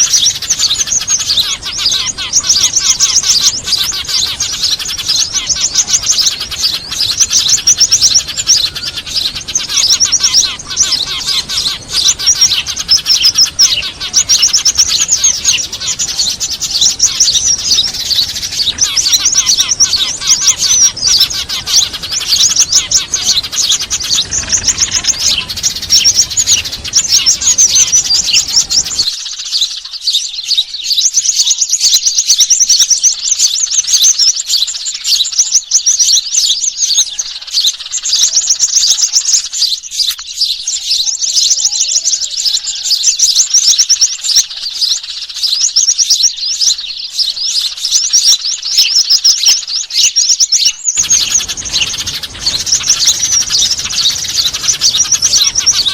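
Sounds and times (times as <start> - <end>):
small birds chirping and twittering: 0.0 - 55.9.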